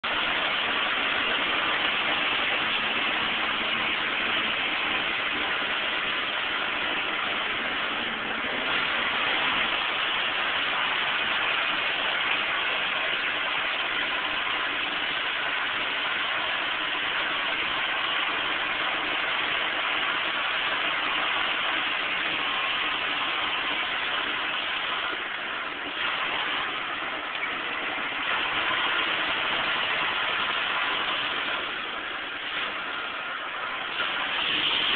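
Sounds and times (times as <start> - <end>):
tyre noise on dirt road: 0.0 - 34.9.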